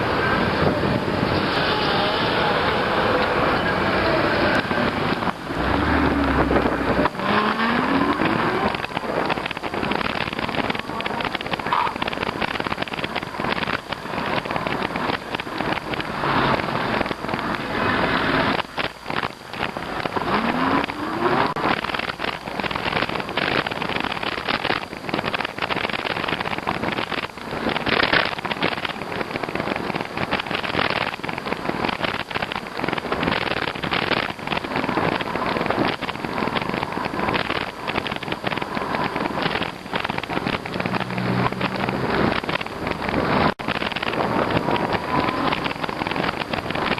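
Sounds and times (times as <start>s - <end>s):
crackling: 0.0s - 46.9s
road noise: 0.0s - 46.9s
wind buffeting microphone: 0.0s - 46.9s.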